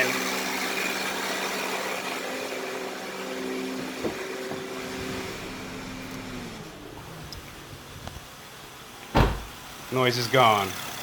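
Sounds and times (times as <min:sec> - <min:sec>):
power steering pump whine: 0:00.0 - 0:09.9
car engine idling: 0:00.0 - 0:11.0.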